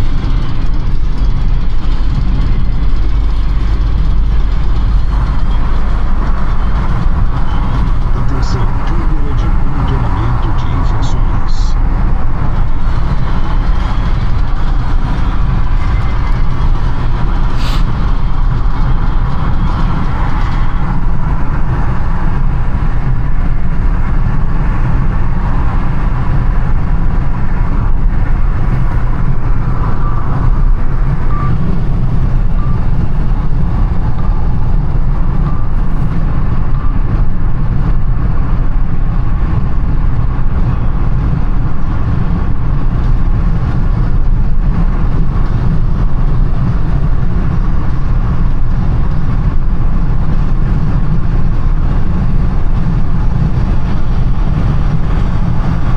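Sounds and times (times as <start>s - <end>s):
car engine and road rumble: 0.0s - 55.9s
surrounding traffic noise: 0.0s - 55.9s.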